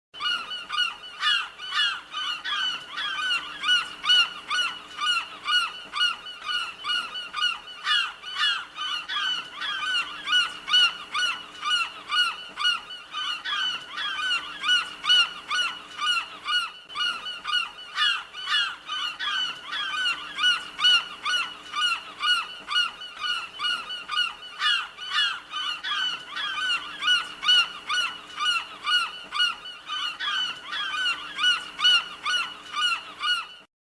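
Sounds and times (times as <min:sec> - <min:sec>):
seagulls squawking: 0:00.2 - 0:33.7.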